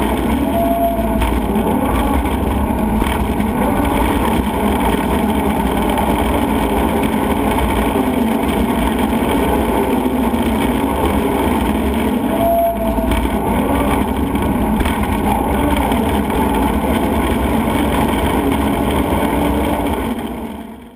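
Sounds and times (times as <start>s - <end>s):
machine squeal: 0.0s - 8.3s, 9.3s - 19.9s
waste shredder running: 0.0s - 20.9s.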